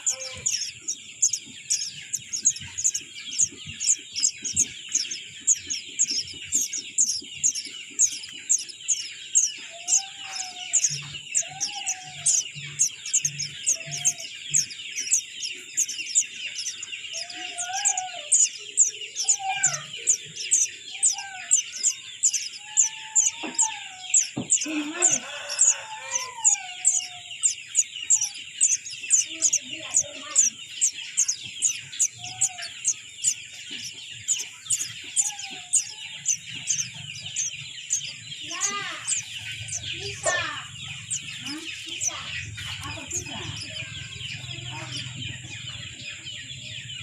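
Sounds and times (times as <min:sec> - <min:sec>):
bird chirping: 0:00.0 - 0:47.0
rising and falling bird calls: 0:00.0 - 0:47.0.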